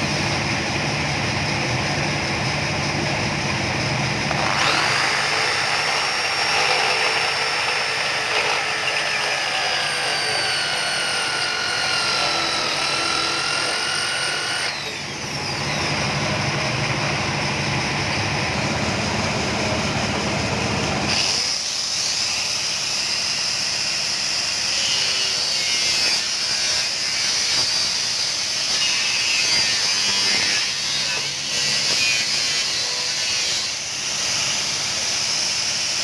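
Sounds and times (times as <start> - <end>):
electric power tool running: 3.9 - 36.0.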